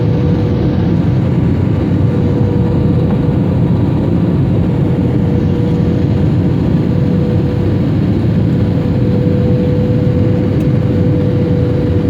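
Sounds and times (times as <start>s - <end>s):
airliner engine and airflow noise: 0.0s - 12.0s
steady mid-pitched hum: 0.0s - 12.0s.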